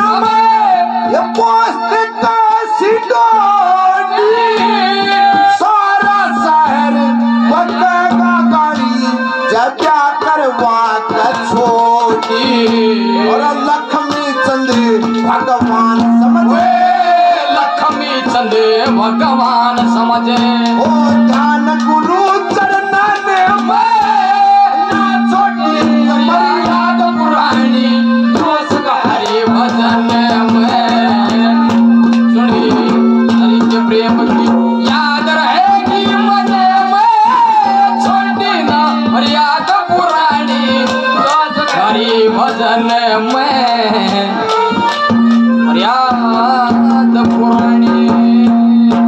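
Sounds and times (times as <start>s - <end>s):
rapid hand drum beats: 0.0s - 49.0s
wavering folk melody: 0.0s - 49.0s.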